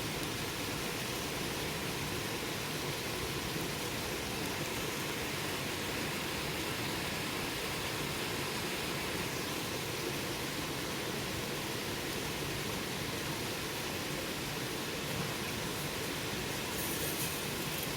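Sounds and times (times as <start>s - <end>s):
campfire hissing: 0.0s - 17.9s.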